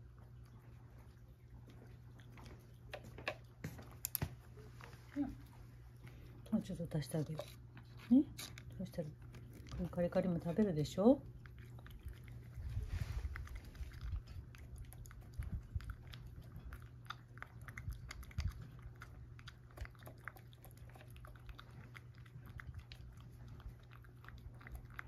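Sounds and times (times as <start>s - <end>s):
cat chewing dry kibble: 0.0s - 25.0s.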